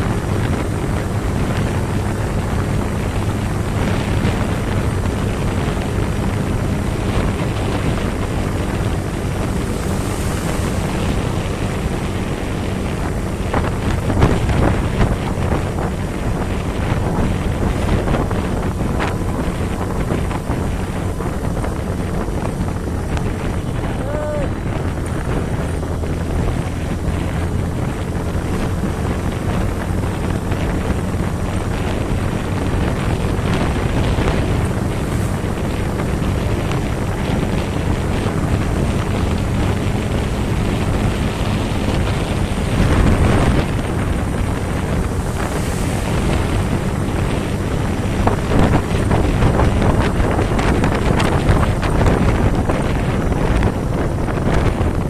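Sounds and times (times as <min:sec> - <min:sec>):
engine droning: 0:00.0 - 0:55.0
wind buffeting microphone: 0:00.0 - 0:55.0.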